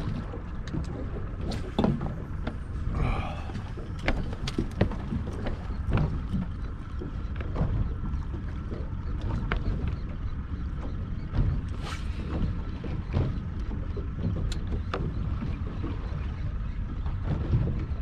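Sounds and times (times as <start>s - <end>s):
water slapping boat hull: 0.0s - 18.0s.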